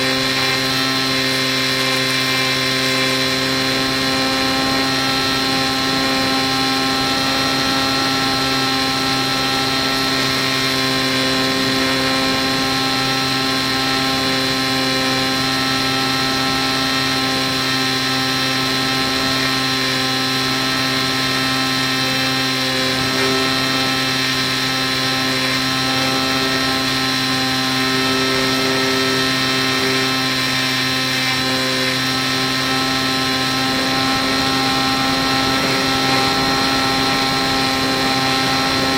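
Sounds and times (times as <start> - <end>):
electric motor and propeller drone: 0.0 - 38.9.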